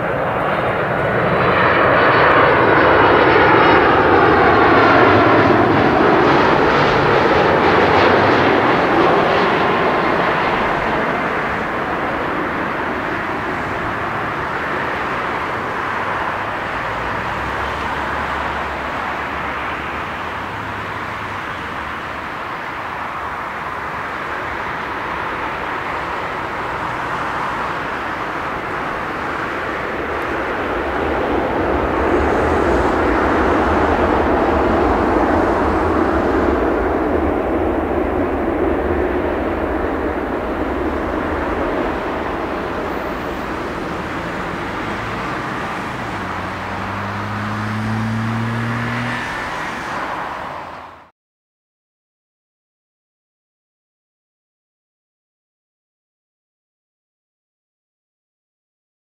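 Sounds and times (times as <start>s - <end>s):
jet engine roar: 0.0s - 51.1s.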